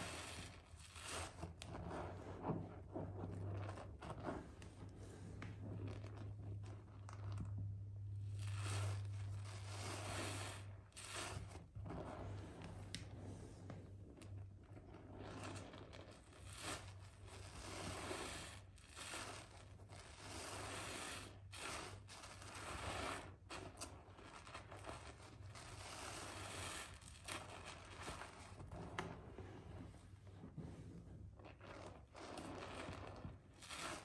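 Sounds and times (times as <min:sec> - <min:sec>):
sponge squelching in soapy water: 0:00.0 - 0:34.0.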